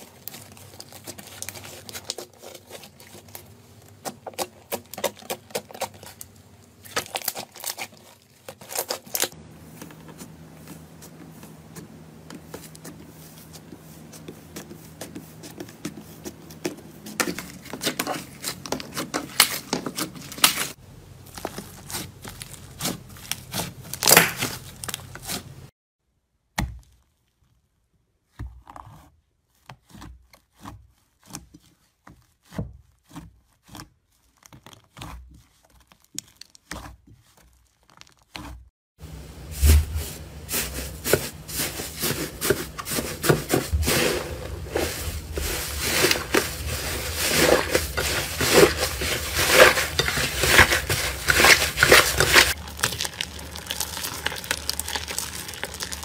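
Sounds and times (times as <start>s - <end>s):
slime crackling and crinkling: 0.0s - 25.7s, 29.4s - 56.0s.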